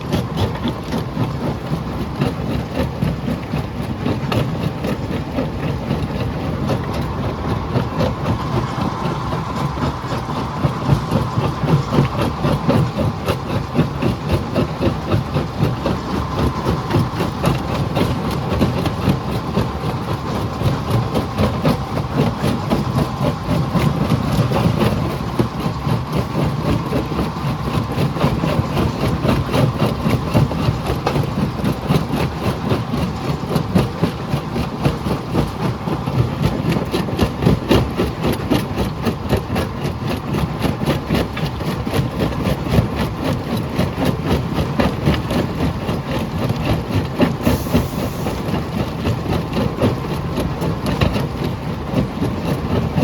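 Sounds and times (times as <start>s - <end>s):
heavy machine rumble: 0.0s - 53.0s.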